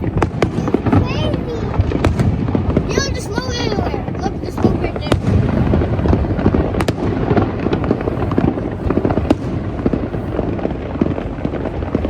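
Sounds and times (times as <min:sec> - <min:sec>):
fireworks bursting: 0:00.0 - 0:12.0
sharp firework cracks: 0:00.0 - 0:12.0.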